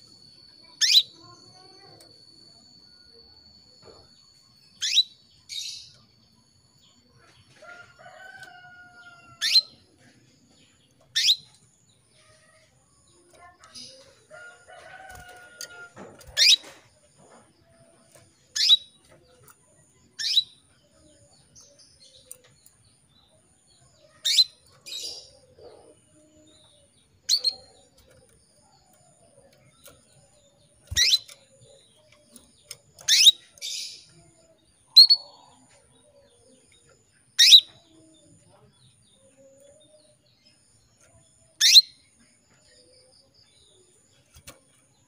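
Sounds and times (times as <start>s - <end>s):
canary chirping: 0.0s - 23.1s, 23.9s - 35.7s, 37.3s - 39.9s, 41.5s - 42.0s.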